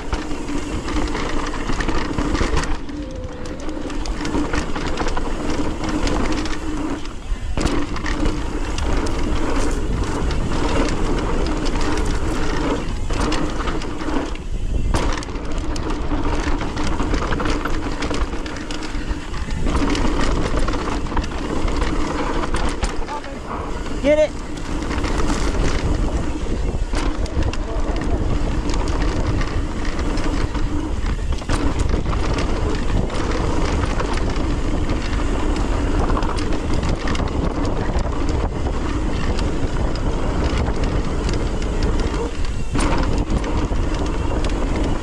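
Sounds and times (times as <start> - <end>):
bicycle freehub buzzing: 0.0 - 45.0
tyre noise on dirt: 0.0 - 45.0
wind on microphone: 0.0 - 45.0.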